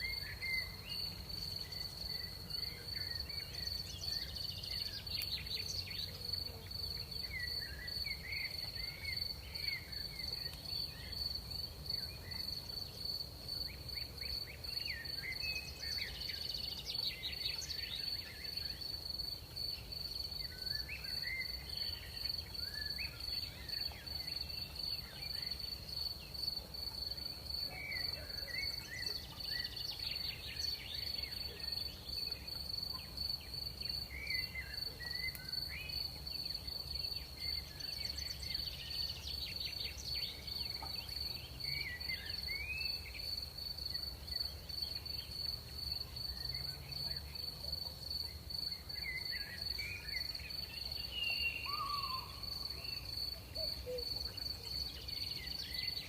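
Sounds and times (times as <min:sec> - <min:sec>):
insect chirps and twitters: 0:00.0 - 0:56.0.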